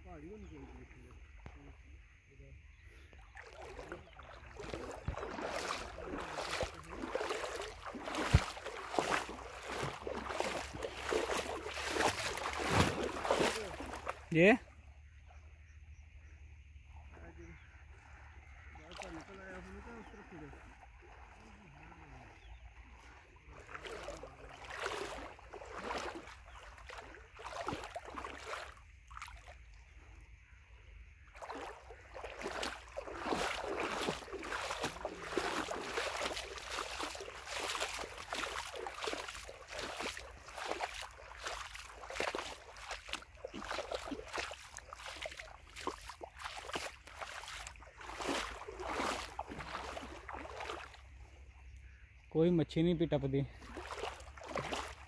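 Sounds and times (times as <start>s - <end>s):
legs wading through water: 0.0s - 55.0s.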